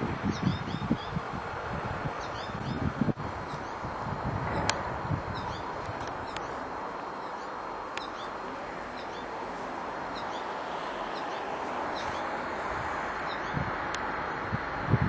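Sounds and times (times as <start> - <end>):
steady background hiss: 0.0 - 15.0
small songbirds chirping: 0.2 - 1.3, 2.1 - 3.9, 4.5 - 9.4, 10.0 - 14.4.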